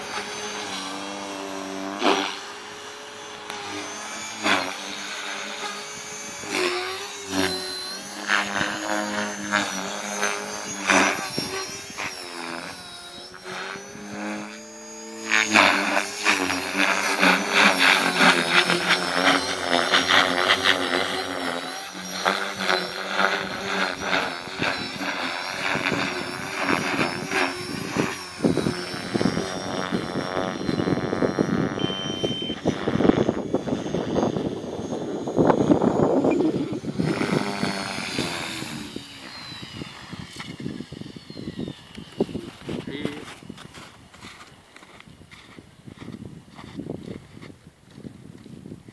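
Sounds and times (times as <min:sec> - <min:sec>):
rc helicopter motor and rotor whine: 0:00.0 - 0:48.9.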